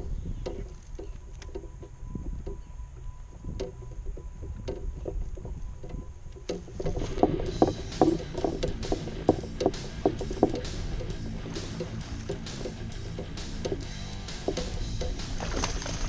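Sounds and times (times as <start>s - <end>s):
gear tapping on plastic kayak: 0.0s - 16.0s
wind rumble on microphone: 0.0s - 16.0s.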